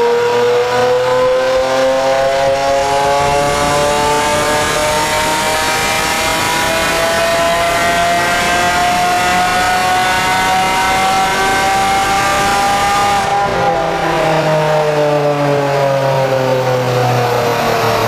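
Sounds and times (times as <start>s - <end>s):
sports car engine revving on dyno: 0.0s - 18.0s.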